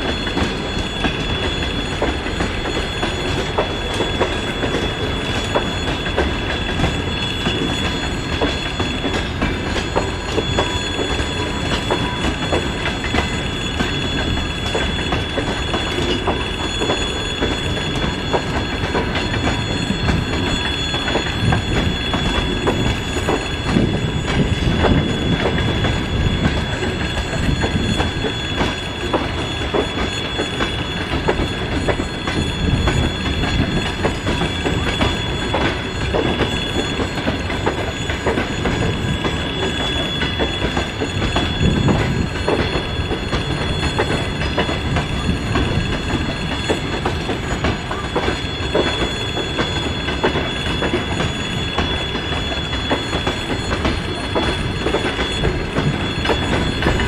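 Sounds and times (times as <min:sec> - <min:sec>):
high squeal: 0:00.0 - 0:57.0
train rumble: 0:00.0 - 0:57.0
train wheels clicking on rails: 0:00.0 - 0:57.0.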